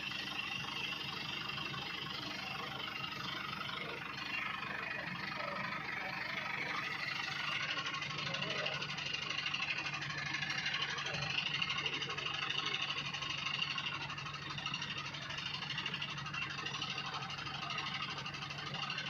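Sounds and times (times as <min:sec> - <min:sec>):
farm vehicle engine running: 0:00.0 - 0:19.0.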